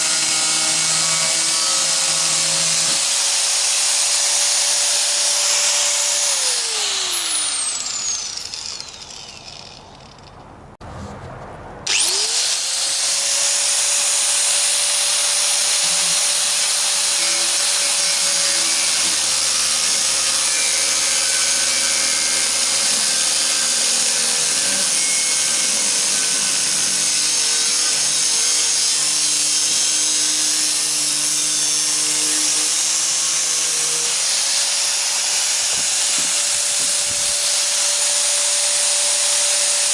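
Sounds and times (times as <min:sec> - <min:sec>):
electric power tool motor: 0:00.0 - 0:10.3, 0:11.9 - 0:39.9.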